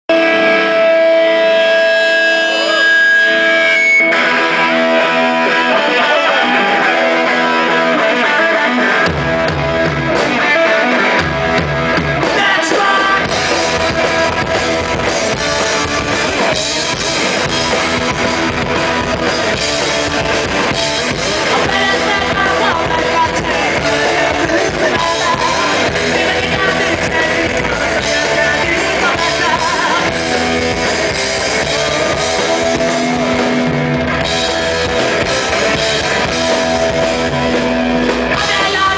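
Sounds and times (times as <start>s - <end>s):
bass and drums: 0.0s - 38.9s
distorted electric guitar: 0.0s - 38.9s.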